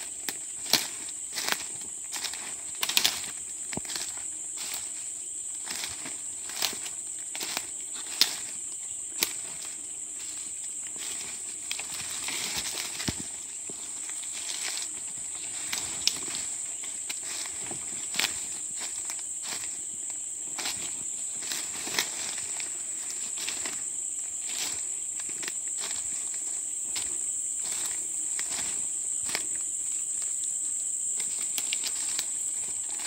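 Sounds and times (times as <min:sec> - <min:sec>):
footsteps on dry leaves: 0:00.0 - 0:33.0
high-pitched insect drone: 0:00.0 - 0:33.0.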